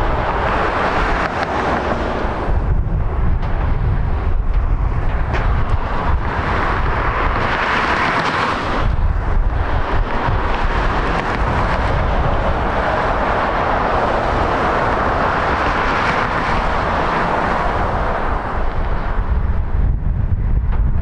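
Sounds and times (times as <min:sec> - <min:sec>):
jet engine rushing: 0:00.0 - 0:20.0
wind rumble on microphone: 0:00.0 - 0:21.0.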